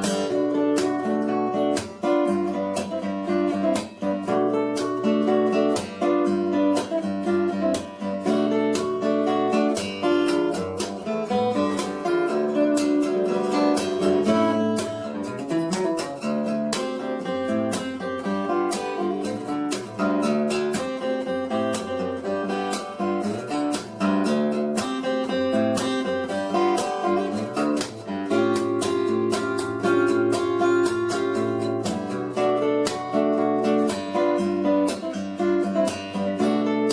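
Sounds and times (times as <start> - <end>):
acoustic guitar music: 0.0 - 36.9.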